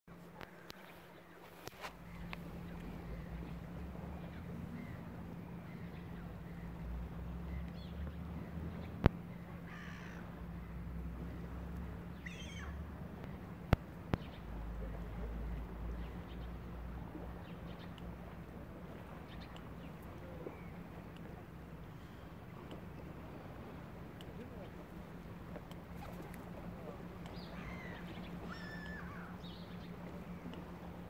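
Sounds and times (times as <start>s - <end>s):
steady low hum: 0.1s - 31.0s
birds calling: 0.4s - 31.0s.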